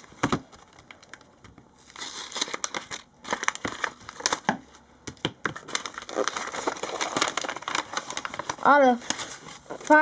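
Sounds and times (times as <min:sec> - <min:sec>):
paper envelope crinkling: 0:00.0 - 0:04.5, 0:05.6 - 0:10.0.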